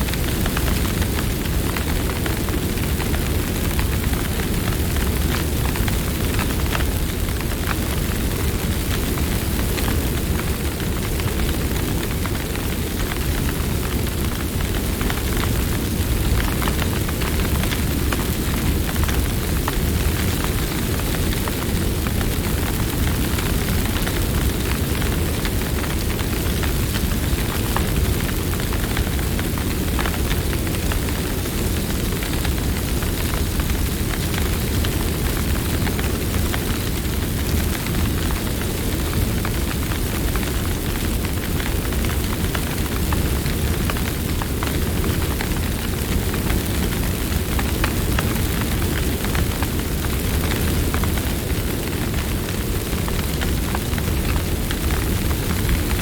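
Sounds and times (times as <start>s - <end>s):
campfire crackling: 0.1s - 56.0s.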